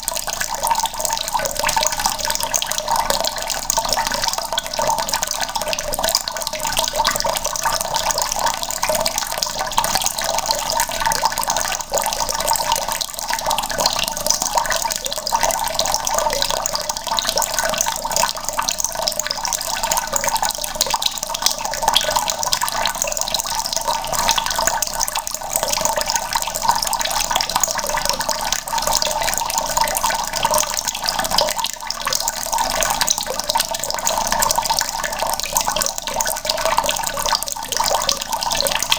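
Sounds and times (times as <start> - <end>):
tap water running into bucket: 0.0 - 38.9.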